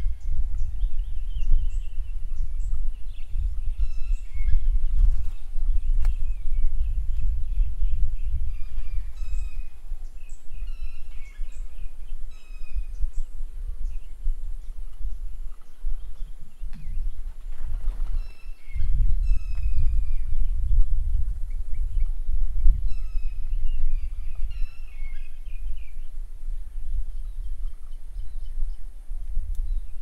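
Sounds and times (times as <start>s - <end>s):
birds chirping: 0.0s - 30.0s
wind rumble on microphone: 0.0s - 30.0s.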